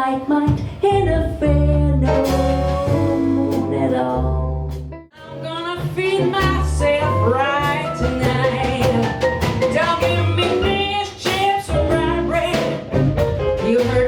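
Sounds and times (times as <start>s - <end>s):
woman singing: 0.0s - 4.5s, 5.2s - 14.0s
swing and blues band: 0.0s - 14.0s.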